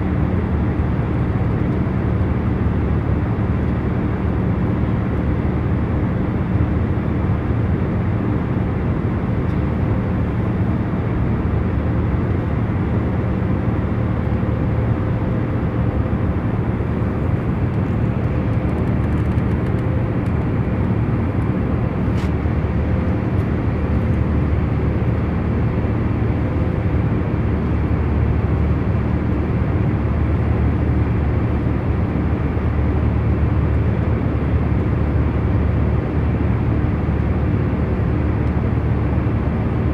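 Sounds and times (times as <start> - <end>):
airliner engine and airflow rush: 0.0 - 39.9.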